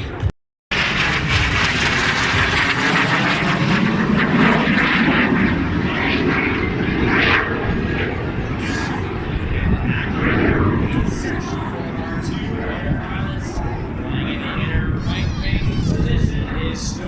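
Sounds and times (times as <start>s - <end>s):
airplane engine roar: 0.0s - 17.0s.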